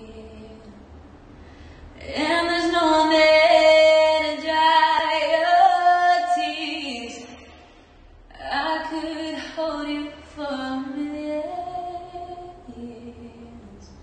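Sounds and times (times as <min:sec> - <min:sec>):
woman singing: 0:00.0 - 0:00.8, 0:02.0 - 0:07.4, 0:08.3 - 0:14.0.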